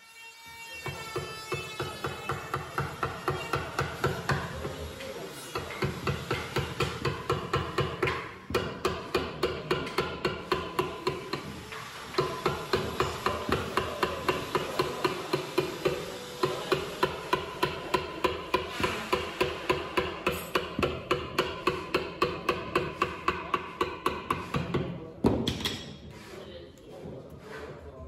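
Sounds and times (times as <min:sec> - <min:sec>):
hammer striking chisel into wood: 0:00.8 - 0:04.8, 0:05.5 - 0:26.0.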